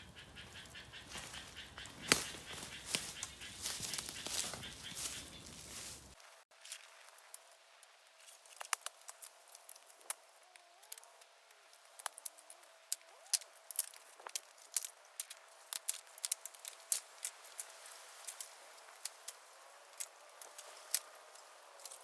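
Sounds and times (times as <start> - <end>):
bamboo fire crackling: 0.0 - 7.4, 8.1 - 11.0, 11.7 - 22.0.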